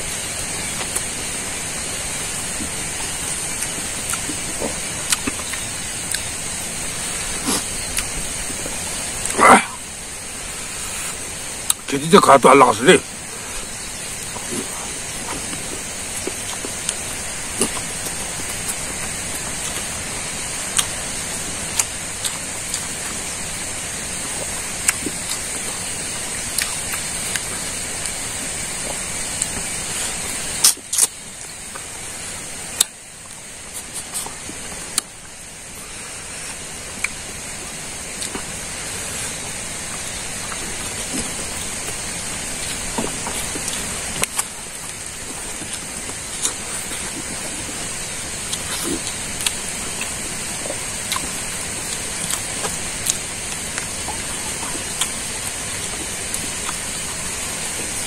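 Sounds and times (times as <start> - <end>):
steady hiss: 0.0 - 58.0
man chewing and mouth smacks: 0.4 - 9.4, 10.7 - 11.9, 13.6 - 58.0.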